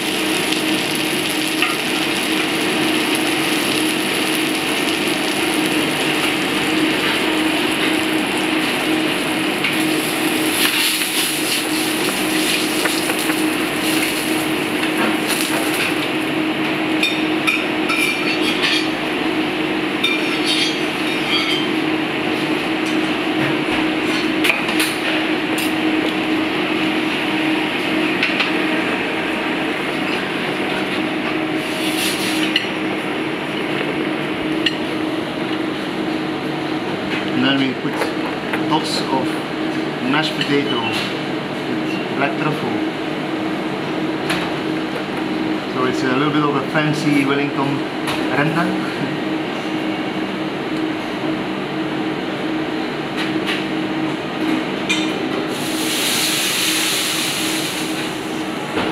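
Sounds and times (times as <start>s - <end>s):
kitchen hum and hiss: 0.0s - 58.9s.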